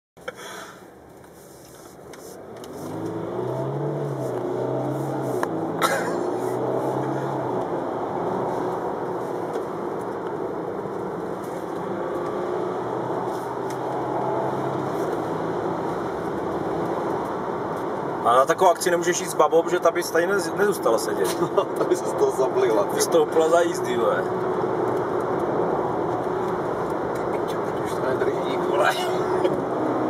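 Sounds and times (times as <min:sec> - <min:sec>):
road noise: 0:00.2 - 0:30.0
car engine accelerating: 0:02.5 - 0:30.0.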